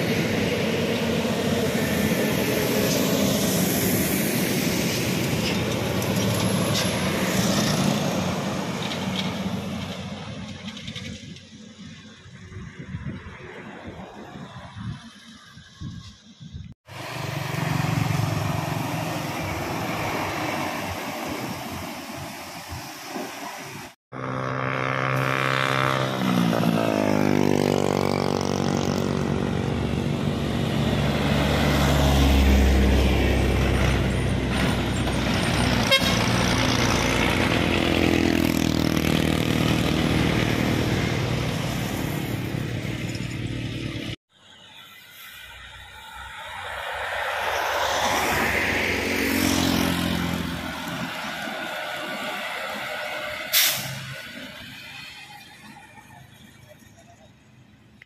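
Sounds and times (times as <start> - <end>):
trucks and cars passing: 0.0 - 58.0
tyres on road: 0.0 - 58.0.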